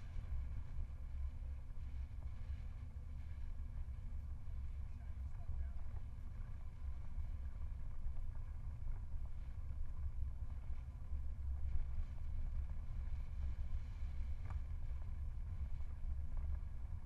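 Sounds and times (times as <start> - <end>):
wind rumble on microphone: 0.0 - 17.0
faint tick: 2.0 - 17.0.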